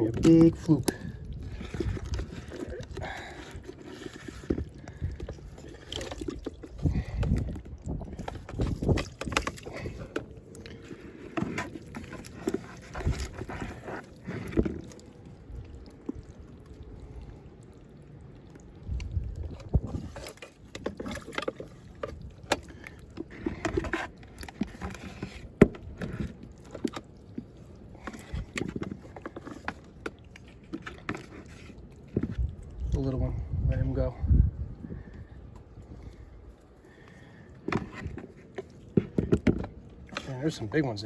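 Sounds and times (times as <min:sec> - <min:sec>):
water sloshing and splashing: 0:00.0 - 0:41.0.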